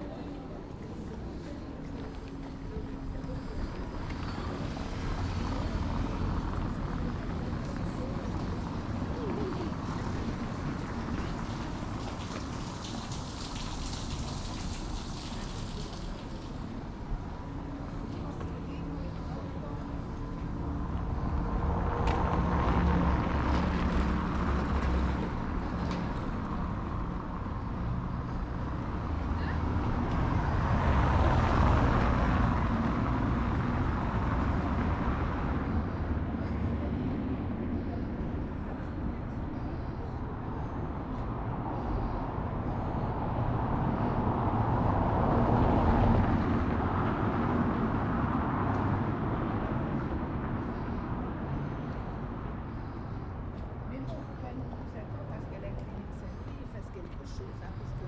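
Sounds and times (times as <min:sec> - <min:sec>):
city street noise: 0:00.0 - 0:58.0
tyres rolling on cobblestones: 0:00.0 - 0:58.0.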